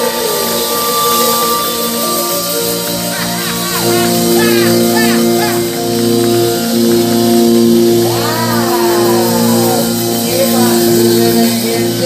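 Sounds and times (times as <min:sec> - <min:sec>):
music with held chords: 0:00.0 - 0:12.0
person singing sliding notes: 0:00.0 - 0:12.0.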